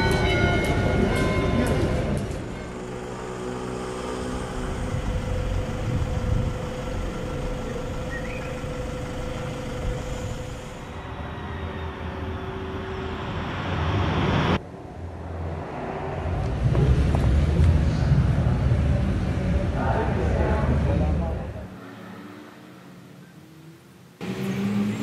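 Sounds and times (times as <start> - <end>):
rumble of passing traffic: 0.0 - 25.0.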